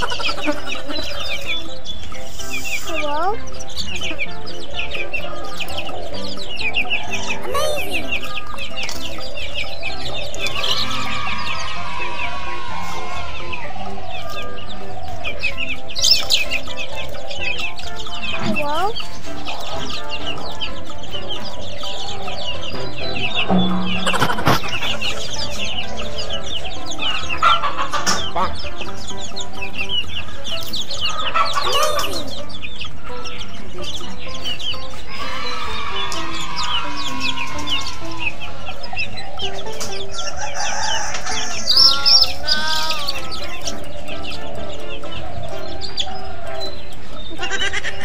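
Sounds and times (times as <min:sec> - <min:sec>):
background music: 0:00.0 - 0:48.0
hen clucking: 0:00.0 - 0:48.0
high chirps: 0:00.0 - 0:48.0.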